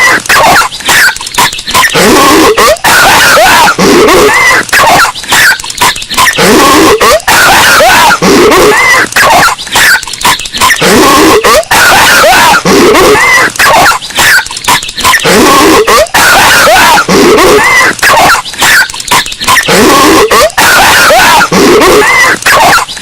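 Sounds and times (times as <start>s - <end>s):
distorted cartoon coughing: 0.0s - 23.0s.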